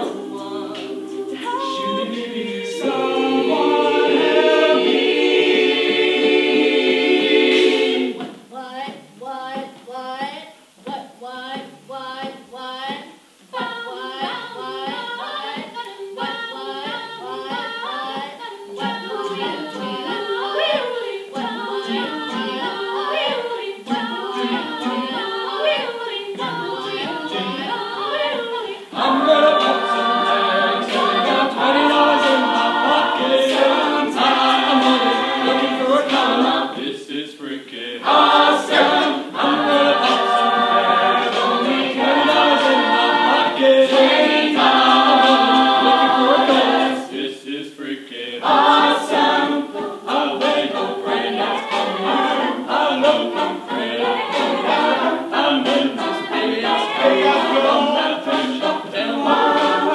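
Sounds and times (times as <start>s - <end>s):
a cappella choir singing: 0.0s - 59.9s.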